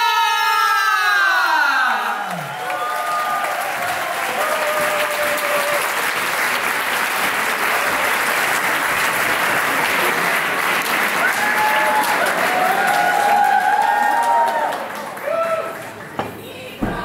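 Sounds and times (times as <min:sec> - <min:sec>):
audience applauding: 0:02.0 - 0:16.2.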